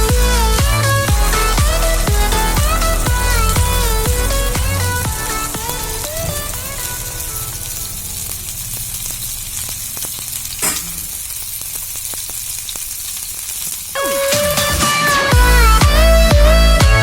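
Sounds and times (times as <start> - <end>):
fish sizzling in oil: 0.0 - 15.8.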